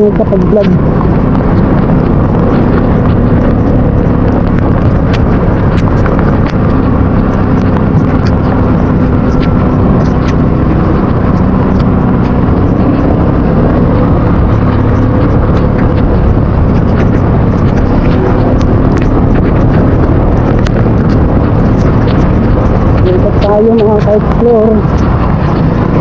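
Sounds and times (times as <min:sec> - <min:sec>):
motorcycle engine running: 0:00.0 - 0:26.0
raindrops ticking on camera: 0:00.0 - 0:26.0
wind and rain rushing: 0:00.0 - 0:26.0.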